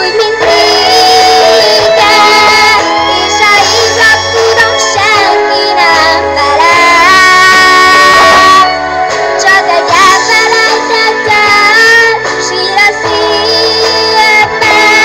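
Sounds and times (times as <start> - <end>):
girl singing into a microphone: 0.0 - 8.7, 9.4 - 15.0
backing music: 0.0 - 15.0.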